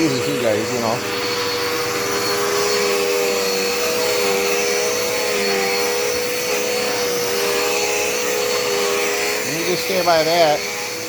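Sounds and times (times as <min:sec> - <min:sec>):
upright vacuum cleaner running: 0:00.0 - 0:11.0.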